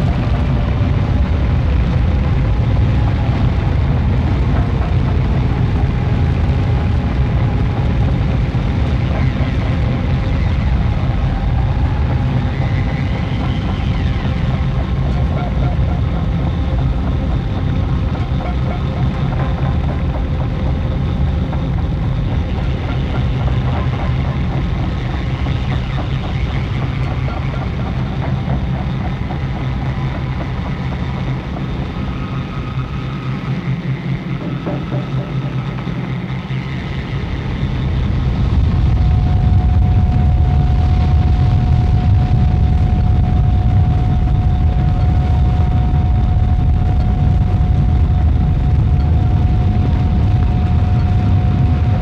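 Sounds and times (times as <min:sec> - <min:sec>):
faint wavering tones: 0:00.0 - 0:52.0
low drone music: 0:00.0 - 0:52.0.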